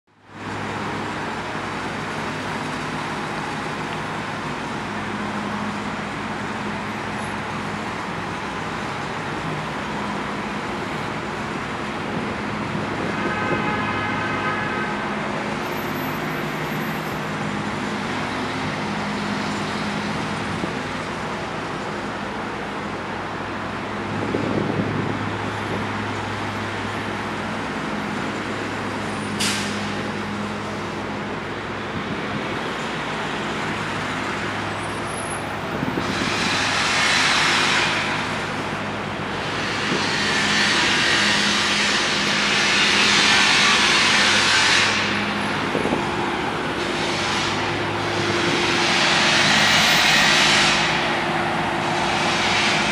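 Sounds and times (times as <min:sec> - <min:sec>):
city traffic: 0:00.0 - 0:52.9.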